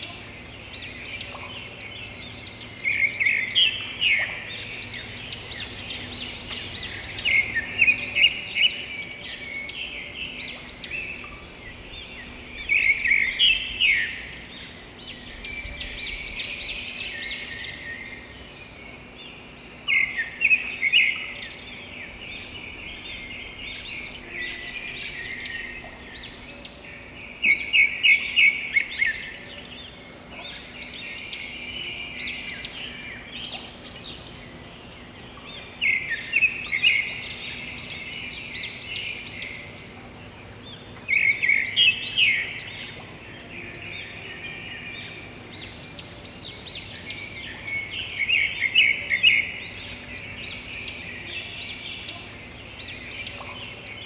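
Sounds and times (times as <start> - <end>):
birds singing and chirping: 0.0 - 54.0
faint steady hum: 0.0 - 54.0.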